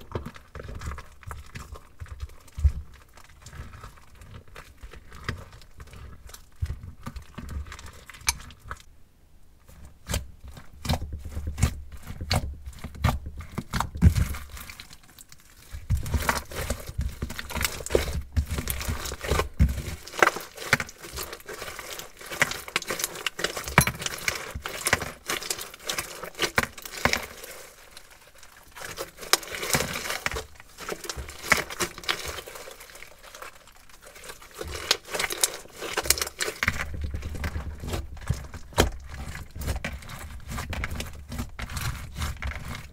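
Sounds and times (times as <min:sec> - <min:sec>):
spoon stirring slime in glass bowl: 0:00.0 - 0:08.9, 0:15.7 - 0:42.9.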